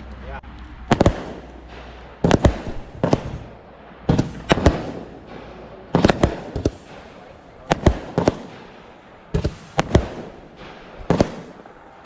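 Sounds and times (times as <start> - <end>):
firework crackling: 0.7 - 12.0
firework bangs: 0.8 - 12.0.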